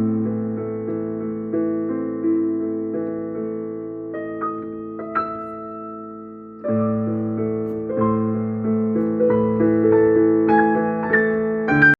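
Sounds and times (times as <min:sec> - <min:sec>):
soft piano music: 0:00.0 - 0:11.9.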